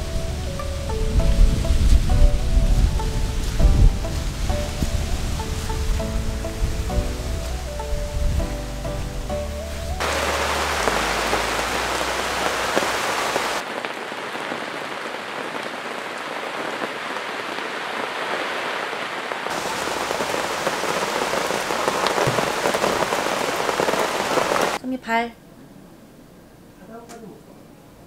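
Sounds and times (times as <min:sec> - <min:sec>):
heavy rain on tent canopy: 0:00.0 - 0:24.8.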